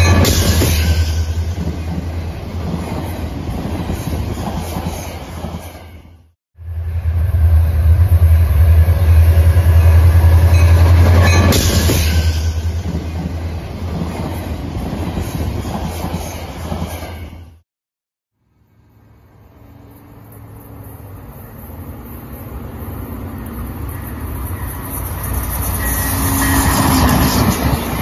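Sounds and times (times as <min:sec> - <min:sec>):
train cars rolling by: 0:00.0 - 0:17.6, 0:19.0 - 0:28.0.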